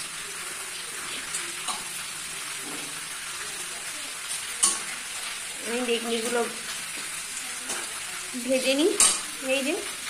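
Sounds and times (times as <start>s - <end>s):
deep-frying sizzle in hot oil: 0.0s - 10.0s.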